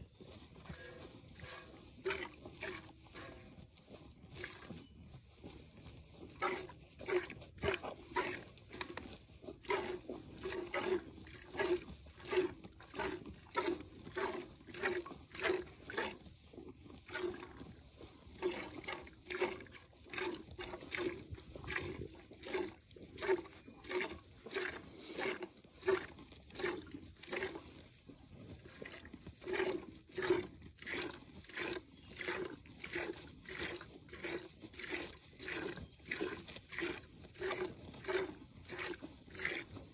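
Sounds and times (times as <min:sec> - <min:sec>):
milk squirting into metal pail: 0:01.4 - 0:03.3, 0:04.3 - 0:04.7, 0:06.4 - 0:16.2, 0:17.0 - 0:17.6, 0:18.3 - 0:27.7, 0:28.6 - 0:39.7.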